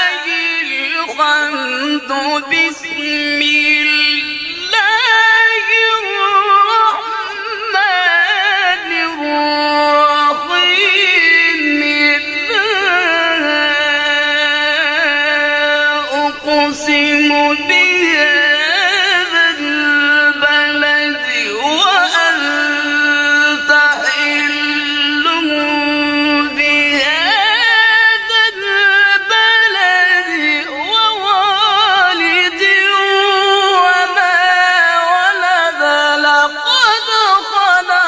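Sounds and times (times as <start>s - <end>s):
high-pitched voice reciting: 0.0s - 38.0s.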